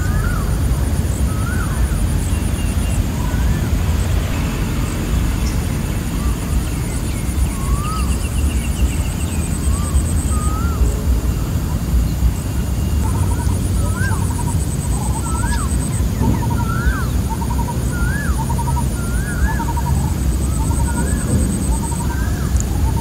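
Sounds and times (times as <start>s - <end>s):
birds whistling calls: 0.0s - 23.0s
insects trilling: 0.0s - 23.0s
steady low rumble: 0.0s - 23.0s.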